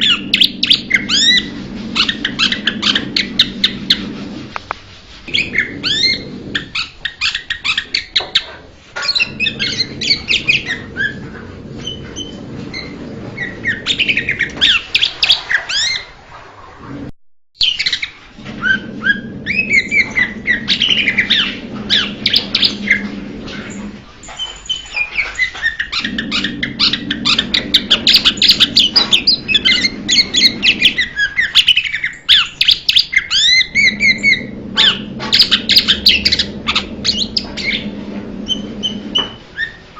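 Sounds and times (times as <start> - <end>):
bird chirping and whistling: 0.0 - 4.0, 5.3 - 16.1, 17.6 - 23.1, 24.3 - 39.9.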